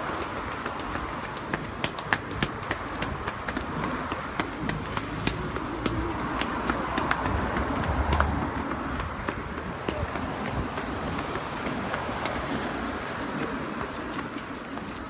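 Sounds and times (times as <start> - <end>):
running footsteps: 0.0 - 15.0.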